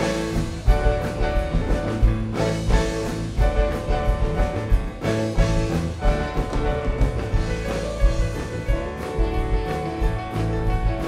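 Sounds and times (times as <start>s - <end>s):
drum hits: 0.0s - 11.0s
rock band playing: 0.0s - 11.0s.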